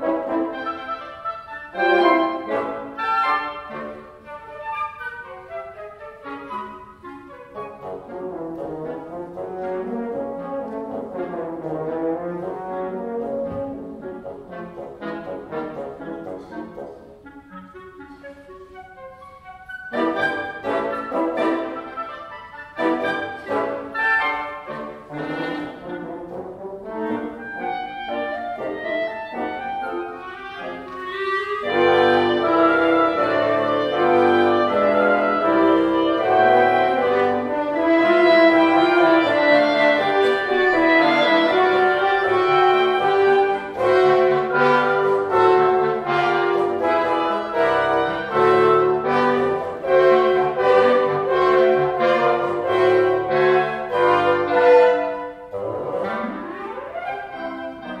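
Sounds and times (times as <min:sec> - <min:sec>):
wind ensemble playing classical piece: 0:00.0 - 0:58.0.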